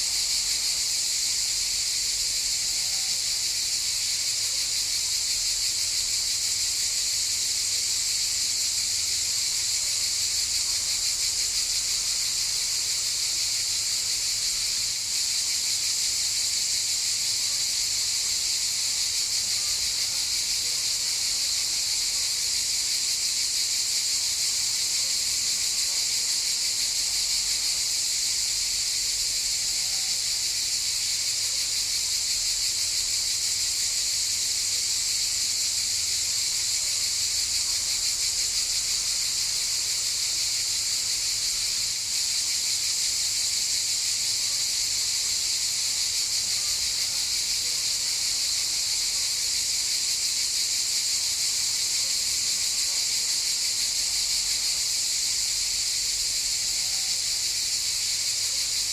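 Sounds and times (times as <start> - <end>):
cicadas buzzing: 0.0 - 58.9.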